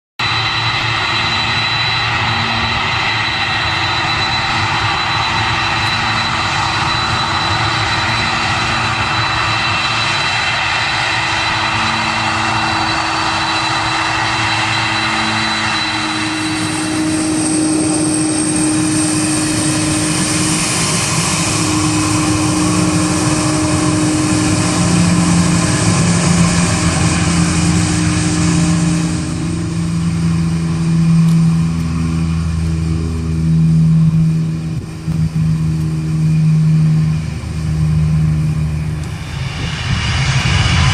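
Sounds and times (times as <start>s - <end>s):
jet engines running with whine: 0.2s - 40.9s.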